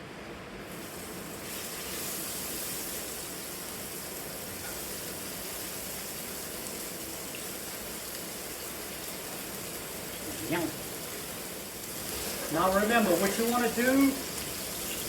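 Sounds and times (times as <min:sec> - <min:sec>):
steaks sizzling in a pan: 0:00.8 - 0:15.0.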